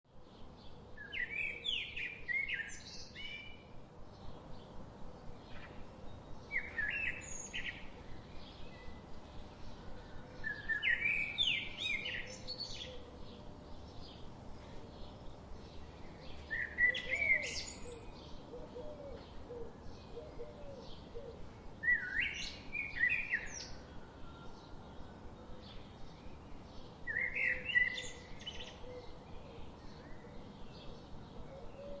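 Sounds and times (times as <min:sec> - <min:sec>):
bird singing complex phrase: 0:00.1 - 0:32.0
faint bird chirping: 0:00.1 - 0:32.0.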